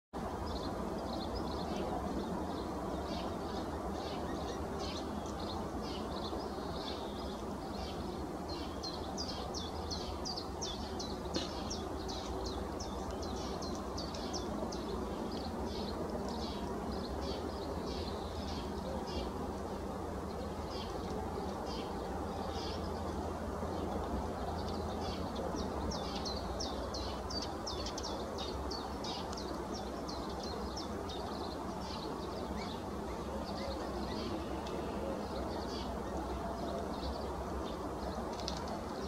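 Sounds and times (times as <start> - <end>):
birds chirping: 0.2 - 39.0.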